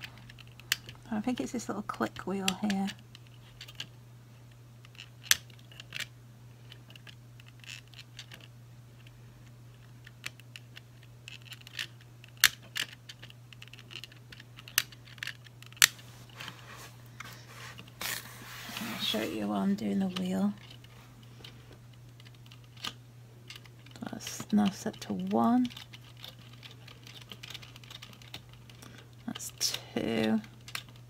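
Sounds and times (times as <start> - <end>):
plastic clicks and scrapes of clock wheel: 0.0 - 3.9, 4.8 - 9.1, 9.7 - 16.6, 18.7 - 31.0.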